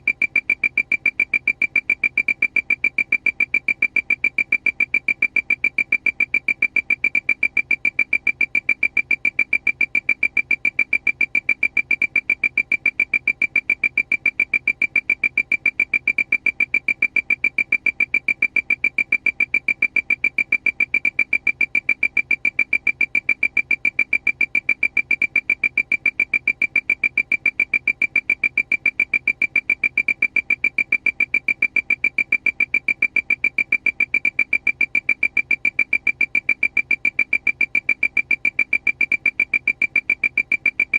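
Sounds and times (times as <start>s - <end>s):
rapid high-pitched alarm beeps: 0.0s - 40.9s.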